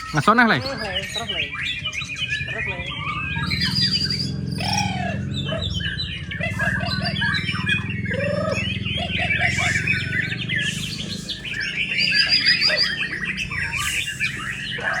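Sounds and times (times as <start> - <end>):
bird singing whistled song: 0.0 - 15.0.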